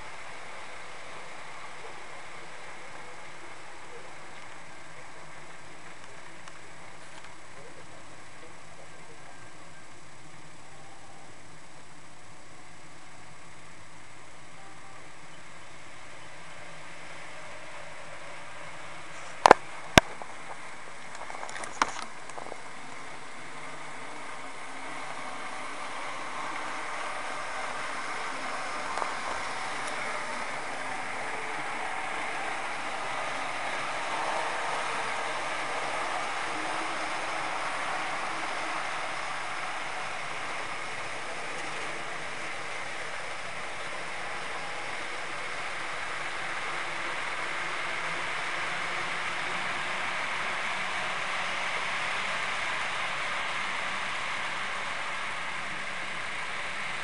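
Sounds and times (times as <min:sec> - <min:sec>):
model train motors whirring: 0:00.0 - 0:57.0
wheels rolling on track: 0:00.0 - 0:57.0.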